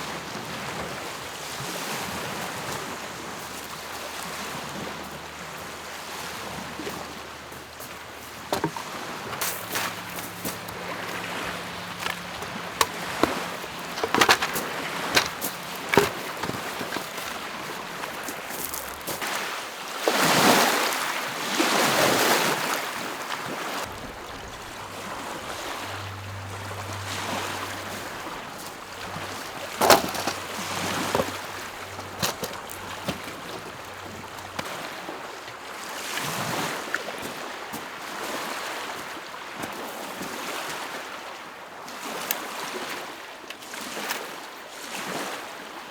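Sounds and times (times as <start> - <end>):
lake waves washing on shore: 0.0 - 45.8.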